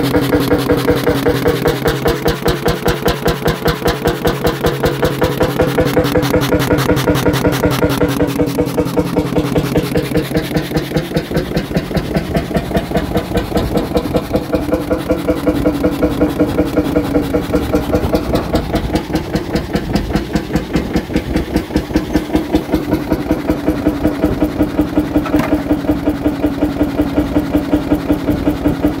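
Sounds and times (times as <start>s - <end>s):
single-cylinder engine running: 0.0s - 29.0s.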